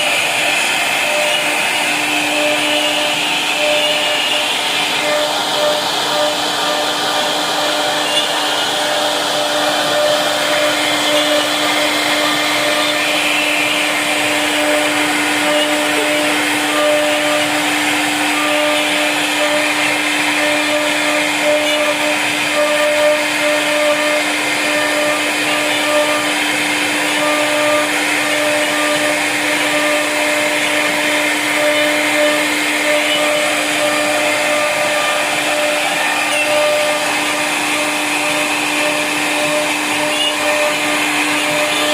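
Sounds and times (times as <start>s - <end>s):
router spindle hiss and hum: 0.0s - 41.9s.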